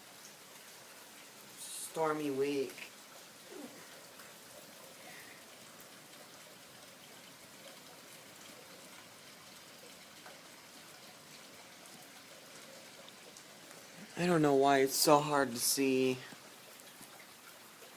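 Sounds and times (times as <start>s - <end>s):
rain hiss: 0.0s - 17.9s
raindrop ticks: 0.2s - 17.9s.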